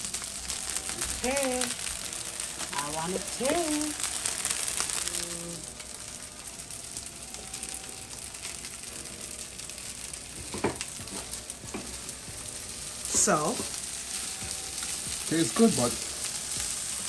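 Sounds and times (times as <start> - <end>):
rice sizzling in oil: 0.0 - 17.0.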